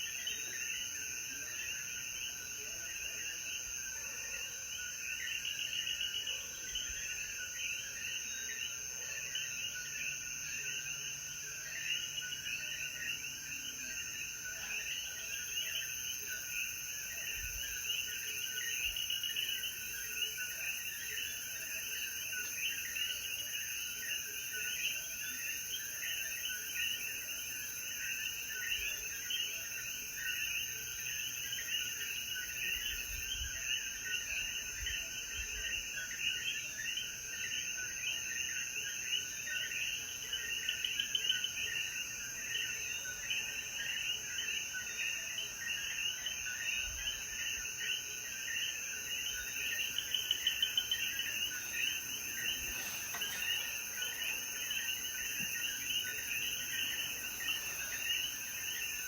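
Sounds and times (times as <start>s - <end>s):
frogs chirping: 0.0s - 59.0s
high insect drone: 10.4s - 59.0s.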